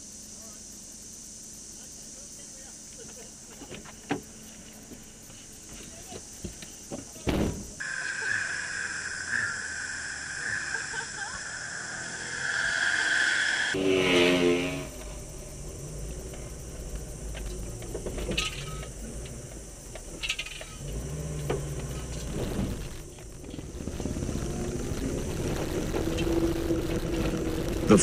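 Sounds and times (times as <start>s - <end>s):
car engine and road rumble: 2.6s - 28.0s.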